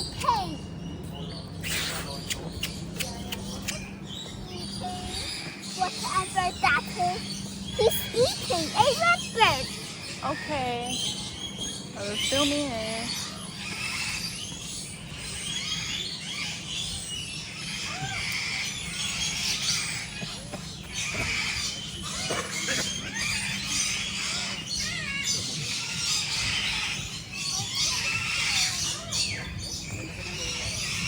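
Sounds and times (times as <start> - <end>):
birds squealing and squawking: 0.0 - 31.0.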